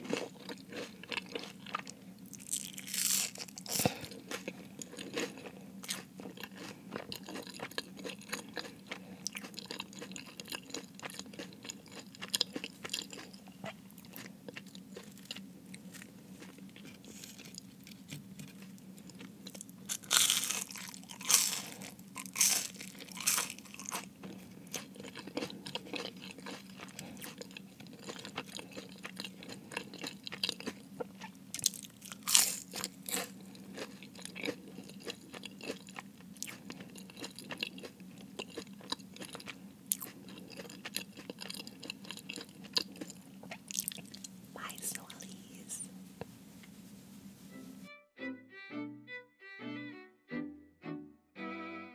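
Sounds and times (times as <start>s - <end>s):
chewing: 0.0s - 44.3s
pastry crust crunching: 0.0s - 45.4s.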